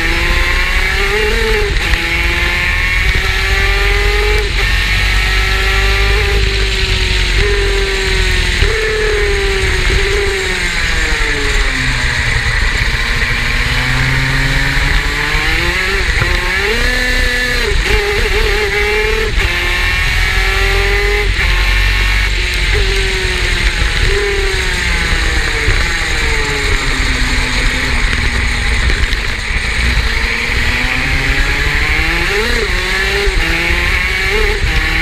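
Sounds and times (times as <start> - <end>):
kart engine revving: 0.0 - 35.0.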